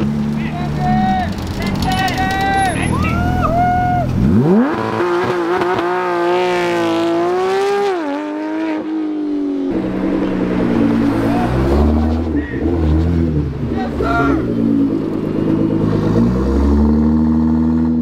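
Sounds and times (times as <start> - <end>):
car engine low rumbling: 0.0 - 18.0
sports car engine revving high: 2.8 - 18.0.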